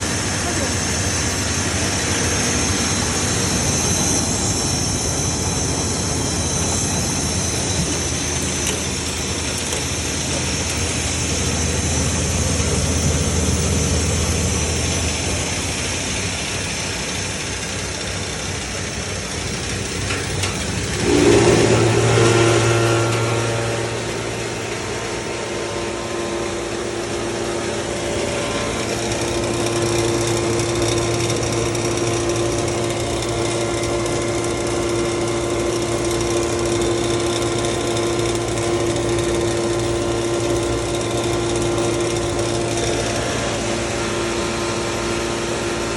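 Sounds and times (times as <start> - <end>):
rice milling machine drone: 0.0 - 45.9.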